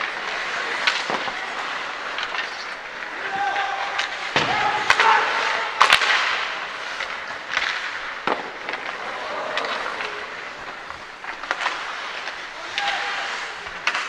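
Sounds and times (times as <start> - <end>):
hockey stick cracking puck: 0.0 - 14.0
skates scraping ice: 0.0 - 14.0
voices calling out: 0.1 - 14.0.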